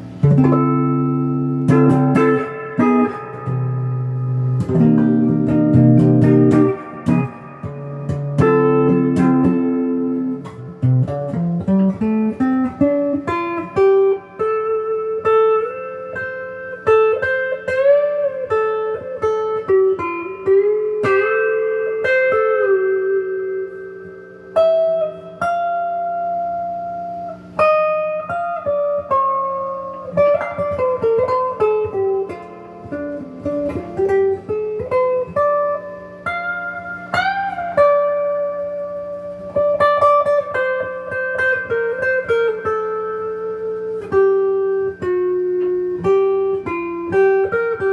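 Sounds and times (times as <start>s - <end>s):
clean electric guitar melody: 0.0s - 47.9s.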